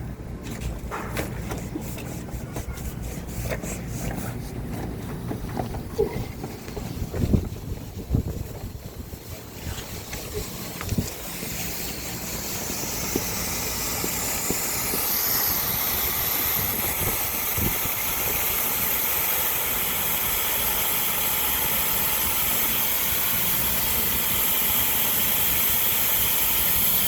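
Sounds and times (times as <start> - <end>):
gas hissing through pipework: 0.7 - 27.0.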